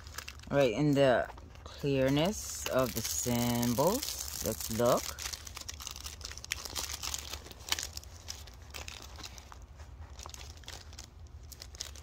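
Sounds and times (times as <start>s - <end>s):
plastic film crinkling: 0.0s - 12.0s
steady low hum: 0.0s - 12.0s.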